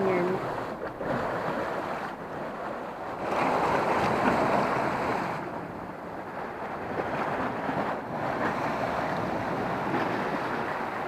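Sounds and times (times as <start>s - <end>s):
sea surf washing against rocks: 0.0s - 11.0s.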